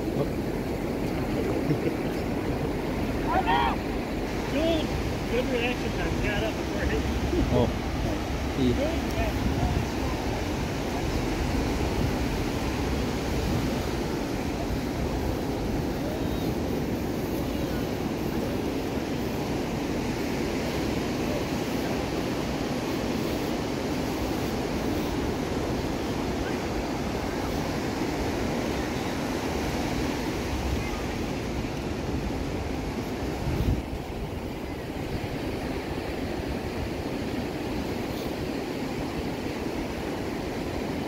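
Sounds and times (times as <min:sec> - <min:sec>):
ocean surf breaking on sand: 0:00.0 - 0:41.0
wind rumbling on microphone: 0:00.0 - 0:41.0.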